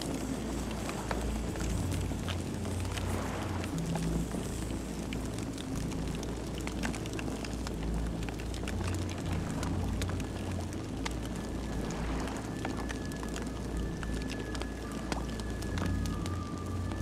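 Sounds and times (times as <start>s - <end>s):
burning wood crackling and popping: 0.0s - 17.0s
flames rumbling: 0.0s - 17.0s.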